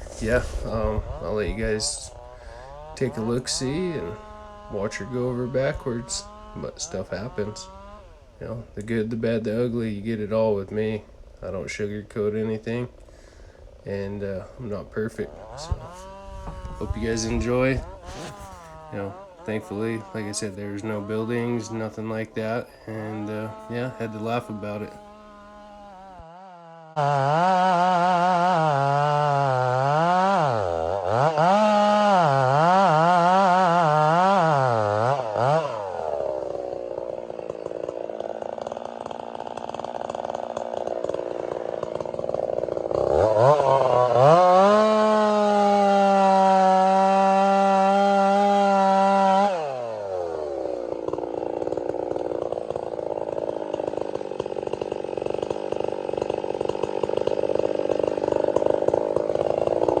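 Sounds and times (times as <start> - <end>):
chainsaw revving: 0.0 - 60.0.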